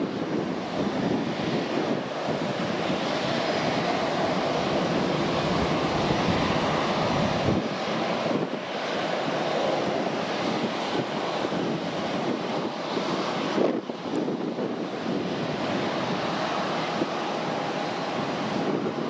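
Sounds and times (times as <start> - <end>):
jet engines rushing: 0.0 - 19.0
wind on microphone: 0.0 - 19.0.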